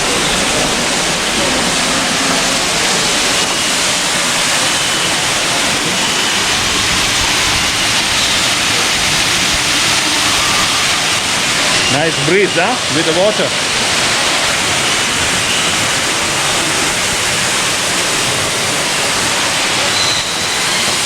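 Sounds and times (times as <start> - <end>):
rush of falling water: 0.0 - 21.0.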